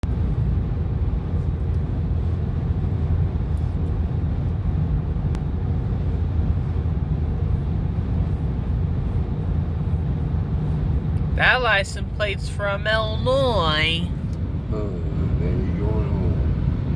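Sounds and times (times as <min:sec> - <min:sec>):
highway traffic rumble: 0:00.0 - 0:16.9.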